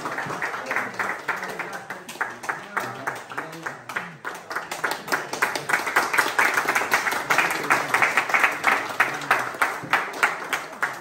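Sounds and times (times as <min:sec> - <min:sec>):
people clapping: 0:00.0 - 0:11.0.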